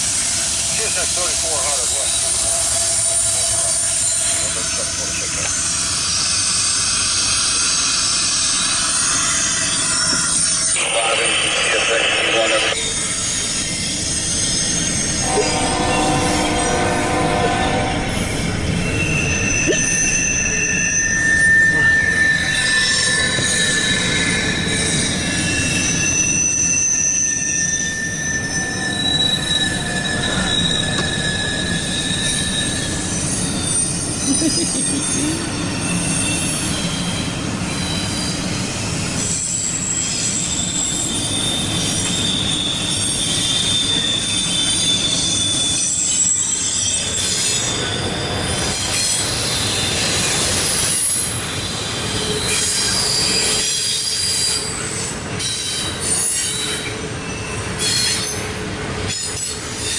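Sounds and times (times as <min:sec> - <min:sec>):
freight train wheels rumbling: 0:00.0 - 0:59.9
high-pitched wheel squeal: 0:00.1 - 0:59.9.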